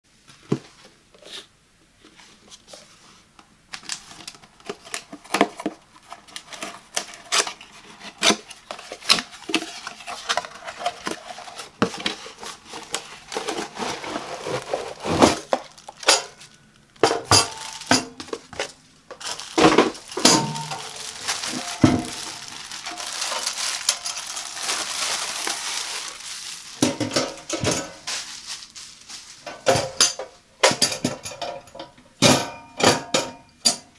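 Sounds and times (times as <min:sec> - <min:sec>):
rustling and scraping: 0:00.2 - 0:30.4.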